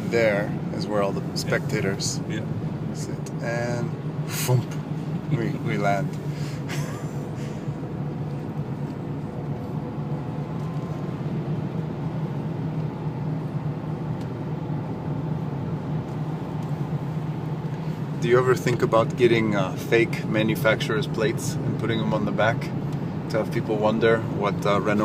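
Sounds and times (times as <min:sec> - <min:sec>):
diesel engine running: 0:00.0 - 0:25.0
tyre and road noise: 0:00.0 - 0:25.0.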